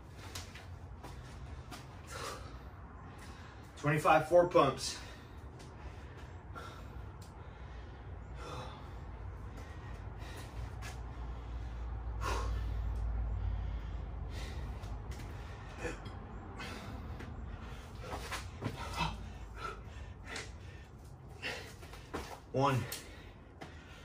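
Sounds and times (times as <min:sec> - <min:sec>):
man breathing hard: 0:00.0 - 0:03.8, 0:04.7 - 0:24.0.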